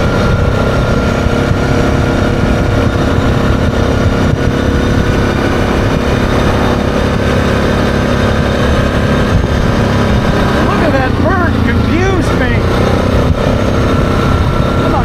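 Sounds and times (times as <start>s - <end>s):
atv engine running: 0.0s - 15.0s
wind rumble on microphone: 0.0s - 15.0s.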